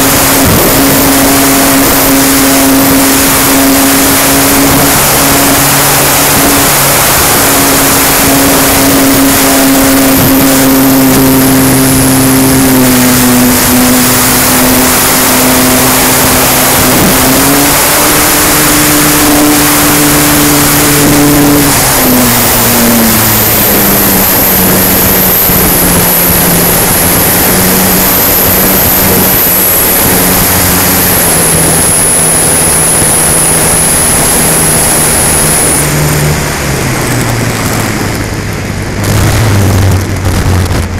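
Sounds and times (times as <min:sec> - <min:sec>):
electric motor and propeller hum: 0:00.0 - 0:40.9
thin high whine: 0:00.0 - 0:40.9
wind rush: 0:00.0 - 0:40.9.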